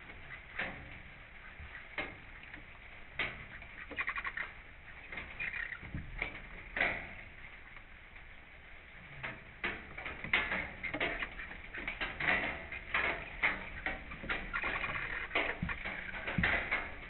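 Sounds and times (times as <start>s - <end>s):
tapping and scratching: 0.0s - 8.0s, 9.1s - 17.0s.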